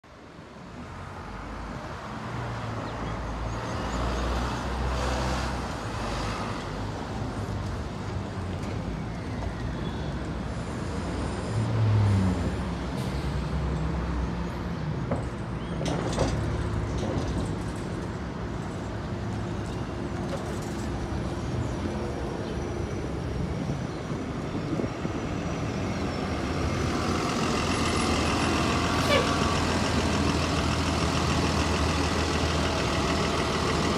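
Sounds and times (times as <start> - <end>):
buses and cars passing: 0.0 - 33.9
bus diesel engine running close: 0.1 - 33.9.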